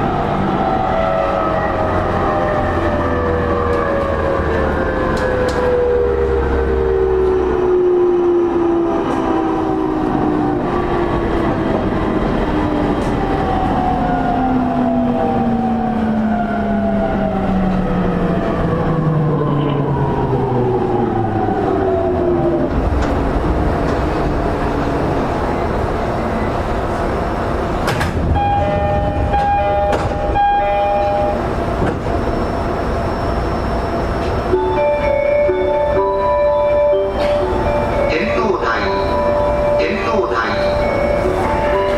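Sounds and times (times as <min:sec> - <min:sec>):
wheels rumbling on rail: 0:00.0 - 0:41.9.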